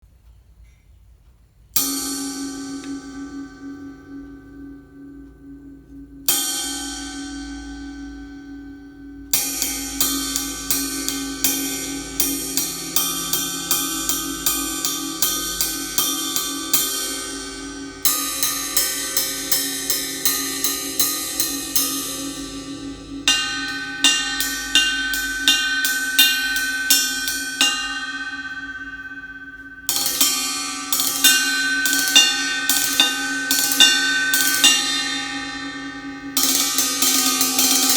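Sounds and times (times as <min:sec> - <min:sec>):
ride cymbal struck with drumstick: 0:01.8 - 0:37.9.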